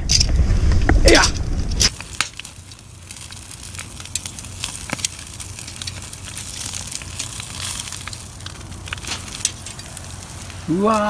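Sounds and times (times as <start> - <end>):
fire pops and snaps: 0.0 - 11.0
wood fire crackling: 0.0 - 11.0.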